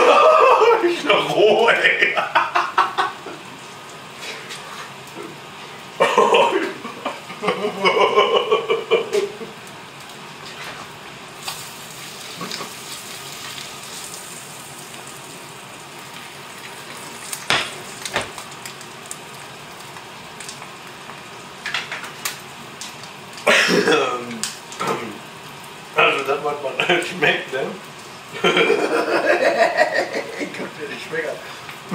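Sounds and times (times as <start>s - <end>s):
egg sizzling in a pan: 0.0s - 31.9s.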